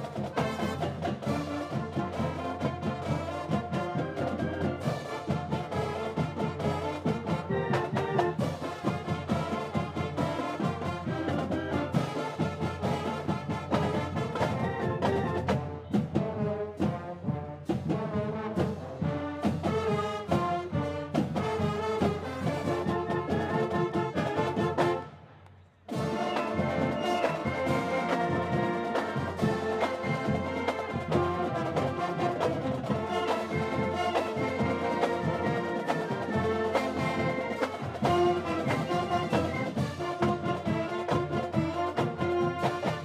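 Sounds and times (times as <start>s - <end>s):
steady drum beat: 0.0s - 25.0s, 25.9s - 43.0s
marching band playing: 0.0s - 43.0s.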